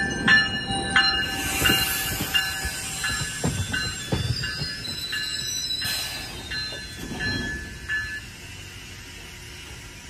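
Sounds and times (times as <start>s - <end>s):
train wheels squealing on rails: 0.0s - 10.0s.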